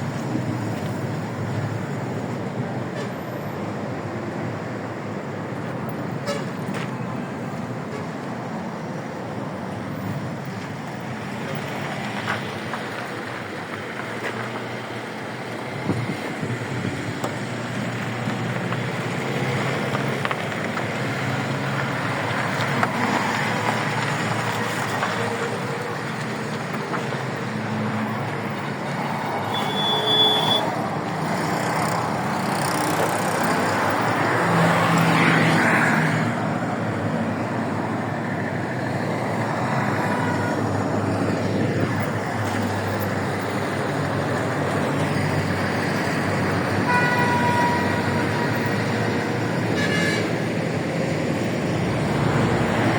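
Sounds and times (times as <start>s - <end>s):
road traffic noise: 0.0s - 52.9s.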